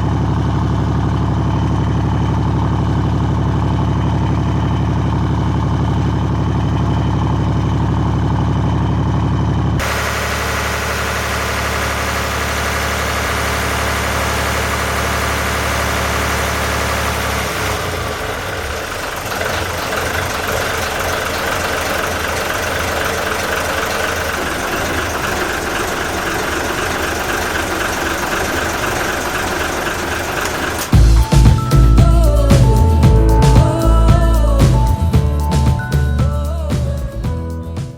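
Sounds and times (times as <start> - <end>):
boat diesel engine running: 0.0 - 37.5.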